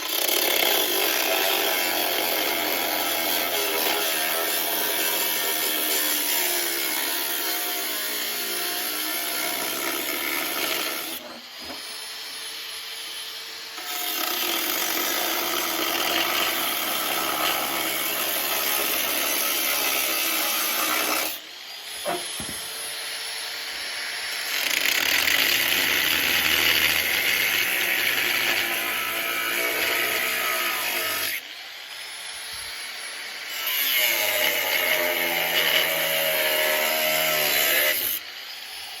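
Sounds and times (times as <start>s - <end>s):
power tool cutting metal: 0.0s - 39.0s.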